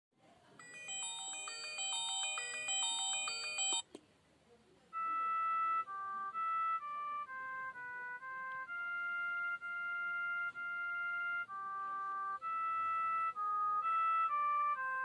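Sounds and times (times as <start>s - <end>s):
electronic ringtone melody: 0.6s - 3.9s, 5.0s - 15.0s
held electronic notes tune: 0.6s - 3.9s, 5.0s - 15.0s.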